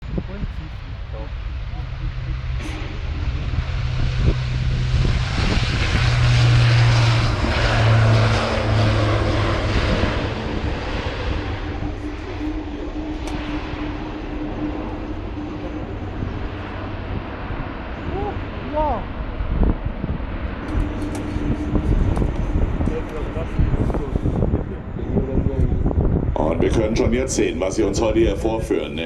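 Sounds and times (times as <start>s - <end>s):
turboprop aircraft drone: 0.0s - 29.0s.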